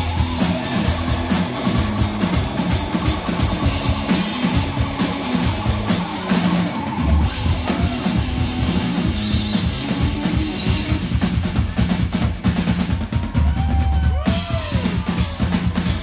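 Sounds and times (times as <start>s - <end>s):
fast drum and cymbal hits: 0.0s - 16.0s
live rock band: 0.0s - 16.0s.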